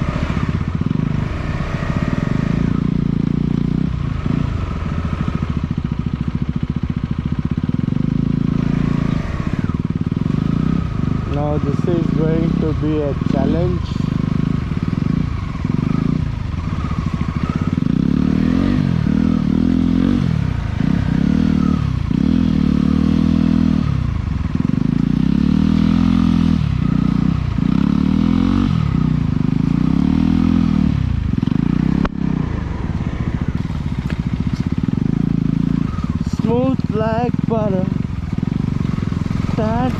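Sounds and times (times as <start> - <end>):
off-road motorcycle engine revving: 0.0 - 39.9.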